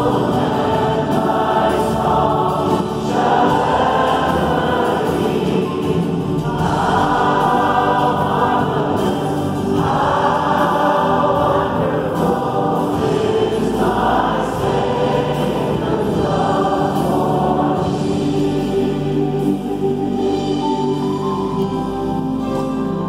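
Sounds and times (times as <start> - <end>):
congregation singing with band: 0.0 - 22.2.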